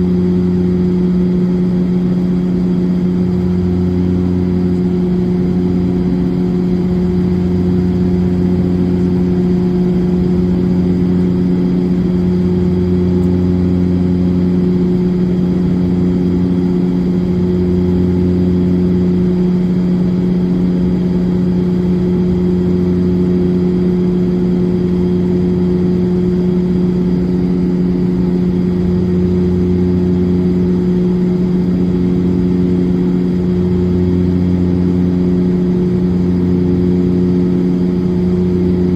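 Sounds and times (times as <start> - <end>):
turboprop cabin drone: 0.0 - 38.9.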